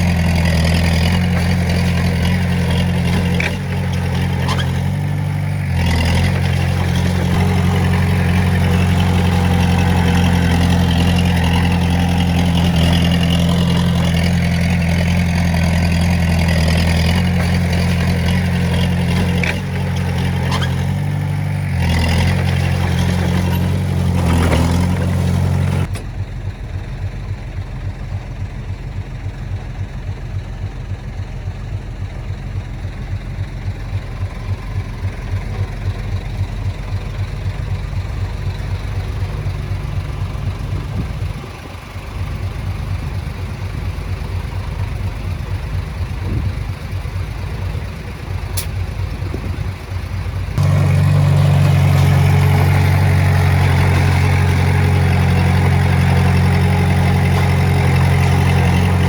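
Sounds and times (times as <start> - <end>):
diesel engine throbbing: 0.0 - 59.0.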